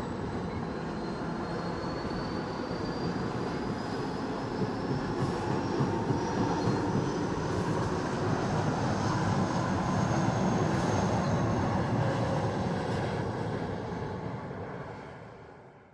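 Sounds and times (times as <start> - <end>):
train wheels rumbling on rails: 0.0 - 14.2.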